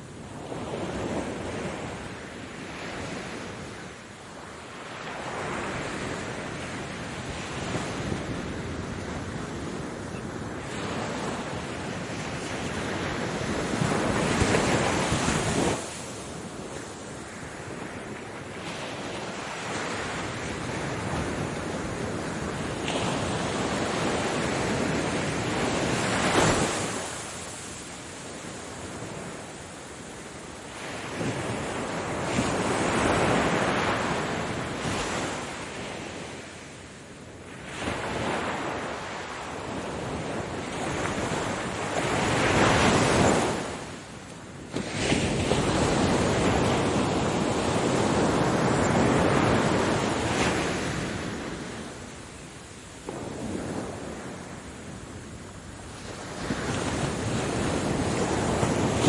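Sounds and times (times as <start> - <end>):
wind buffeting microphone: 0.0 - 36.7, 37.4 - 59.0
ocean waves breaking: 0.0 - 59.0.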